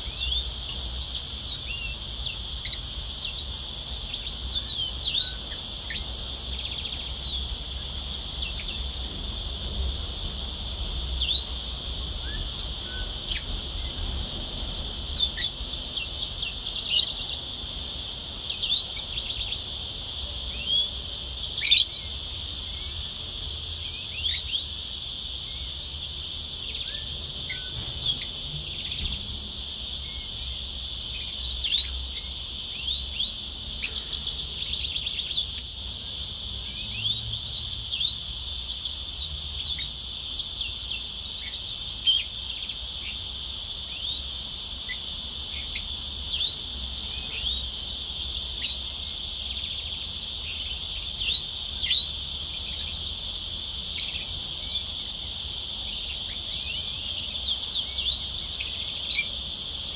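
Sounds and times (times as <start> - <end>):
canaries singing: 0.0 - 59.9
steady high hiss: 0.0 - 59.9.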